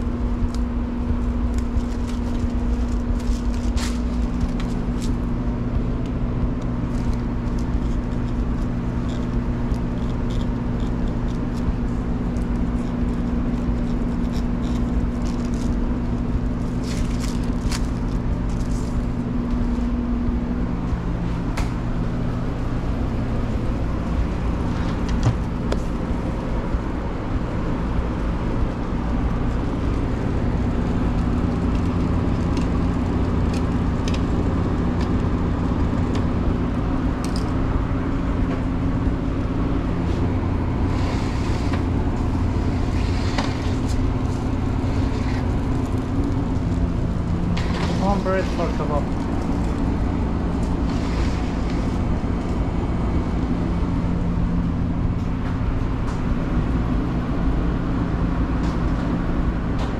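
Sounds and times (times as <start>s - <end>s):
kitchen fans and motors humming: 0.0s - 59.9s.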